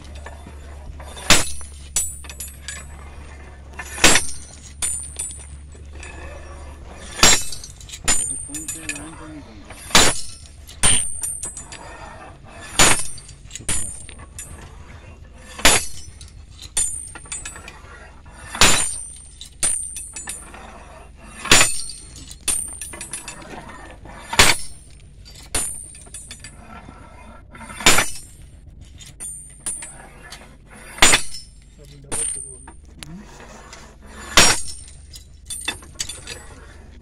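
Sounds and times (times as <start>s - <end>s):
drop hammer striking metal: 0.0s - 3.0s, 3.7s - 6.2s, 6.8s - 11.9s, 12.6s - 14.7s, 15.4s - 20.6s, 21.3s - 26.6s, 27.6s - 32.9s, 34.0s - 36.6s.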